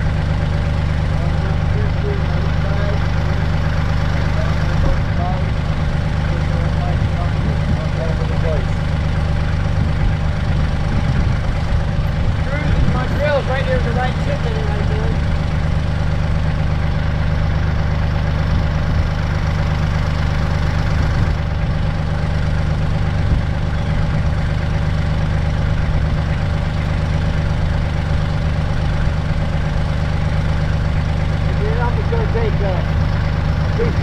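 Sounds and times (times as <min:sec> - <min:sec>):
tractor diesel engine idling: 0:00.0 - 0:34.0.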